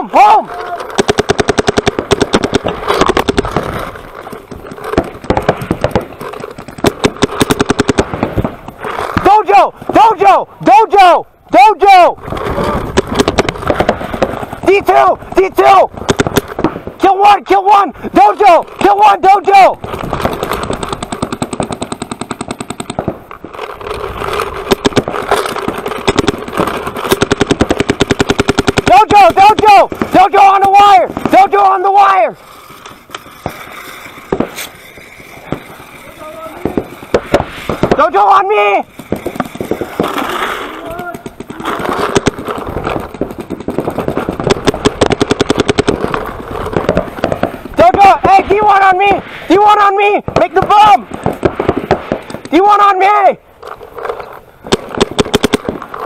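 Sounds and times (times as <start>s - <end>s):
paintball markers firing: 0.4s - 11.0s, 11.8s - 56.0s.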